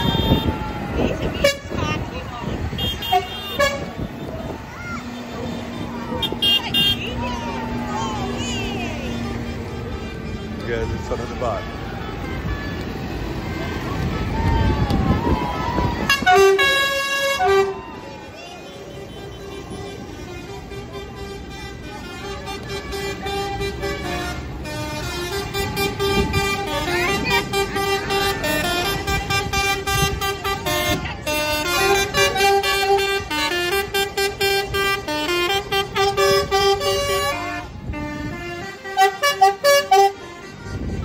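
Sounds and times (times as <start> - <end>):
loud horn blasts: 0.0 - 14.6, 15.3 - 41.0
tractor and lorry engines: 0.0 - 41.0
music from passing vehicle: 7.0 - 41.0.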